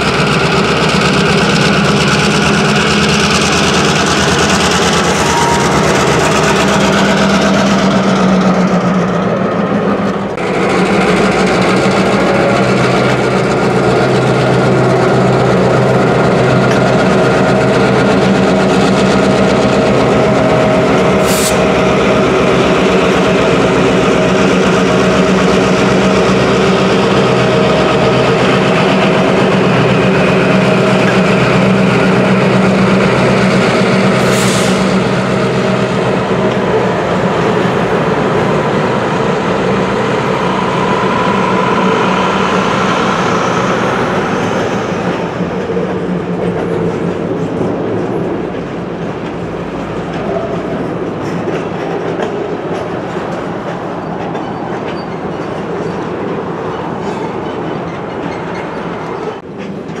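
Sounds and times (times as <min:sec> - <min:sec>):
diesel locomotive engines droning: 0:00.0 - 1:00.0
freight cars clickety-clack on track: 0:00.0 - 1:00.0.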